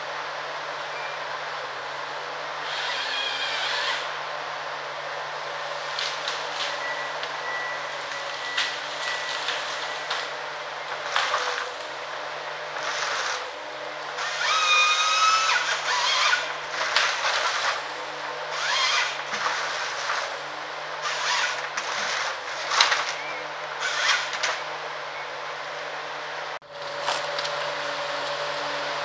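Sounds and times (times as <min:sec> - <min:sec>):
harvester diesel engine running: 0:00.0 - 0:29.0
hydraulic and cutting noise: 0:01.4 - 0:29.0.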